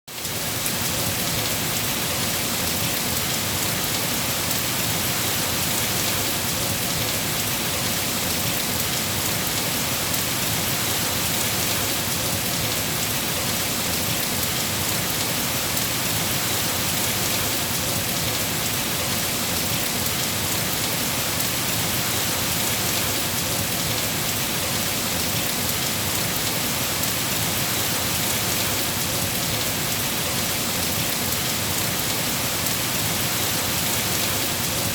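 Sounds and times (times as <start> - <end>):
rain falling on forest canopy: 0.1 - 34.9.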